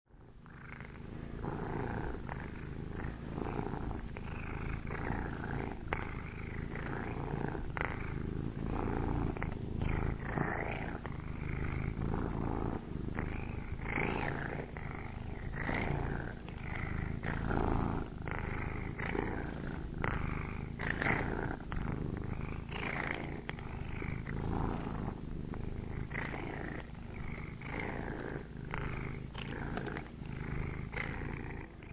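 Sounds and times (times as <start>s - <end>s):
cat purring: 0.1s - 31.9s.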